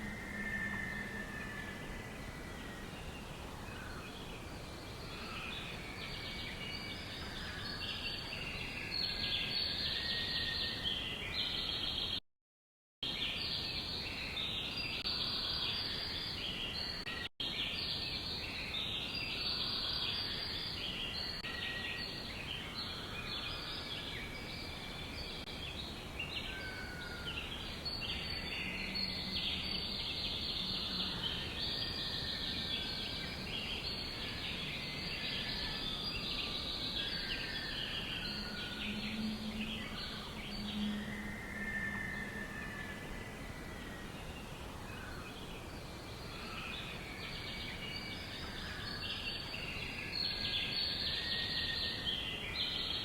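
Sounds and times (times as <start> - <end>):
steady background hiss: 0.0 - 12.1, 13.1 - 53.0.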